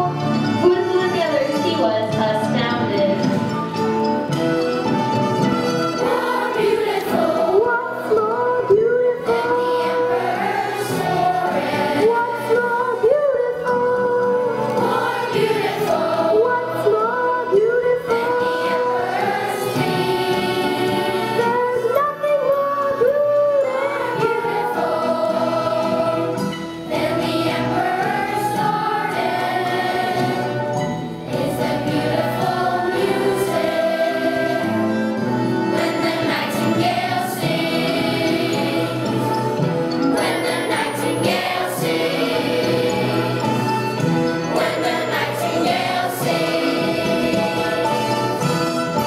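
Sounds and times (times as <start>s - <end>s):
musical accompaniment: 0.0s - 49.0s
children's choir singing: 5.6s - 49.0s.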